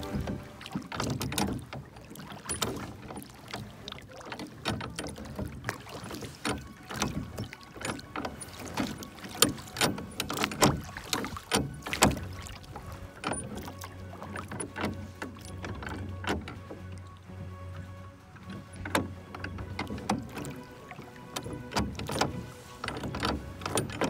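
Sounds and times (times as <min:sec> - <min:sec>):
oars knocking: 0:00.0 - 0:24.0
oars splashing in water: 0:00.0 - 0:24.0.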